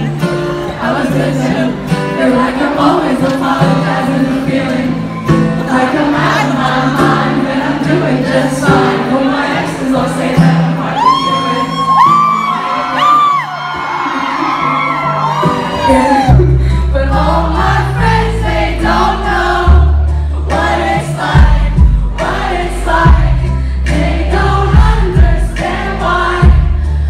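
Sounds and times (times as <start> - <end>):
woman singing into microphone: 0.0 - 12.5, 15.7 - 26.8
acoustic guitar: 0.0 - 27.0
crowd noise and shouts: 0.0 - 27.0.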